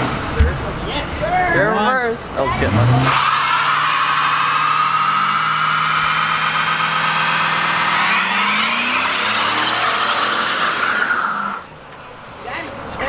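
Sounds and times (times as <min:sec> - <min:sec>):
tyres squealing: 0:00.0 - 0:11.6
car engine revving: 0:00.0 - 0:11.7.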